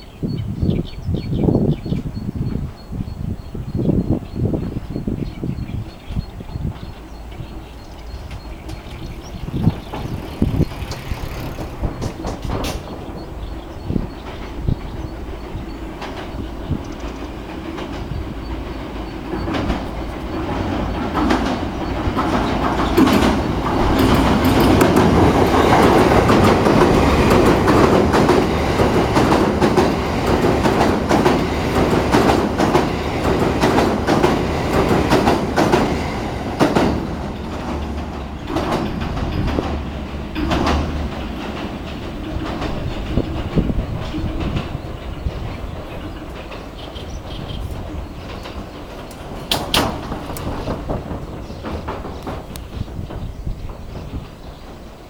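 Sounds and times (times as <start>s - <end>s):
train crossing a bridge: 0.0s - 55.0s
train wheels clacking over rail joints: 4.6s - 55.0s.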